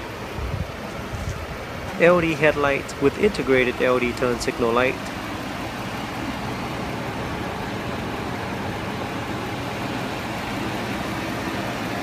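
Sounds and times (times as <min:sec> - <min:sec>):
motor vehicle hum: 0:00.0 - 0:12.0.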